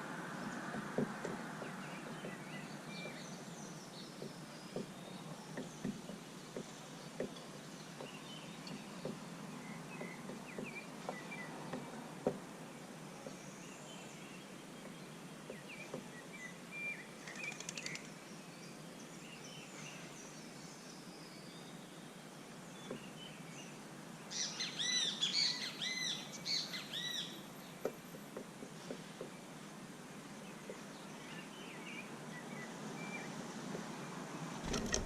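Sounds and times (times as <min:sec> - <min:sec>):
songbirds chirping: 0:00.0 - 0:35.0
steady outdoor hiss: 0:00.0 - 0:35.0.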